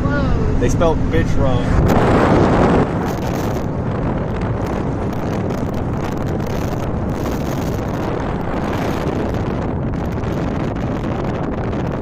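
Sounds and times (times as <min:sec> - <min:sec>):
road and engine noise: 0:00.0 - 0:12.0
wind buffeting microphone: 0:00.0 - 0:12.0.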